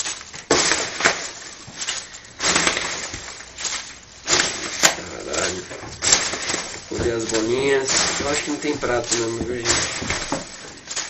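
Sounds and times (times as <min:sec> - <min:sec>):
foam packing peanuts rustling: 0:00.0 - 0:11.0
plastic bag crinkling: 0:00.0 - 0:11.0.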